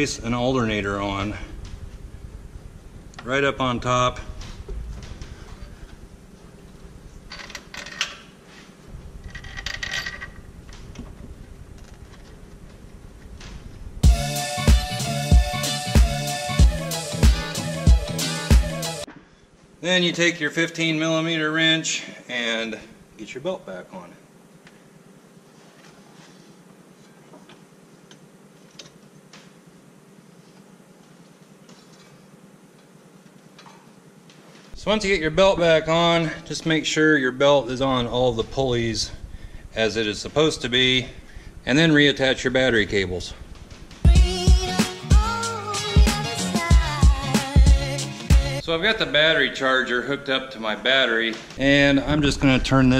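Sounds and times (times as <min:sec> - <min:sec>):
low background hum: 0:00.0 - 0:14.2, 0:19.0 - 0:52.9.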